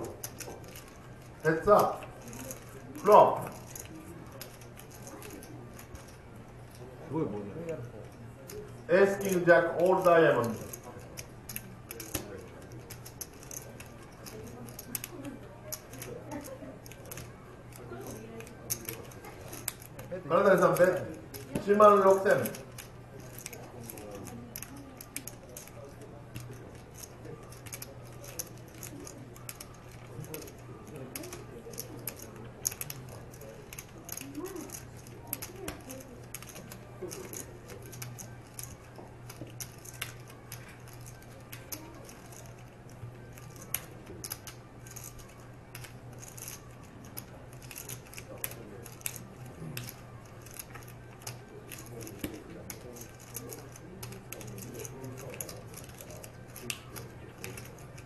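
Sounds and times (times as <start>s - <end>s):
clay poker chips clacking: 0.0s - 6.8s, 7.7s - 58.0s
faint murmuring voices: 0.0s - 58.0s
steady low hum: 0.0s - 58.0s.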